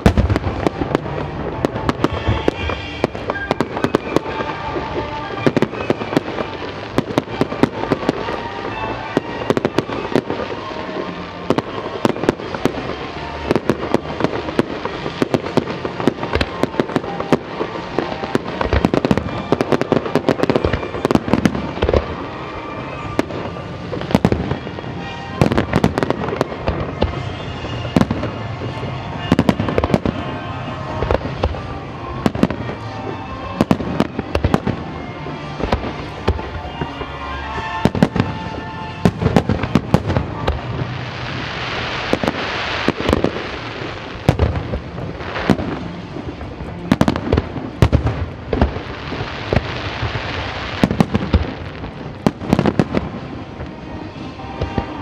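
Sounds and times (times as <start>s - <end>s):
fireworks bursting with crackle: 0.0s - 55.0s
music playing: 0.0s - 55.0s.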